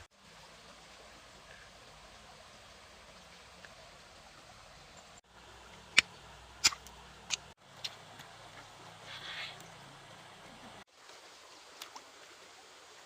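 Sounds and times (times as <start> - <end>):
flowing water hiss: 0.0 - 13.0.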